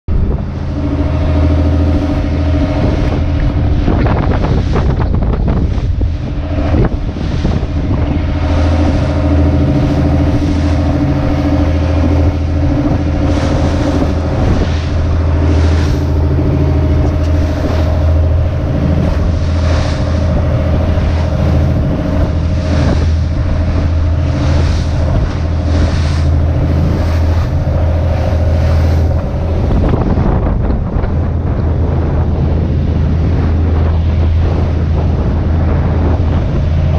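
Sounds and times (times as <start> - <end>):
boat engine running: 0.0 - 36.9
water splashing against hull: 0.0 - 36.9
wind on microphone: 0.0 - 36.9.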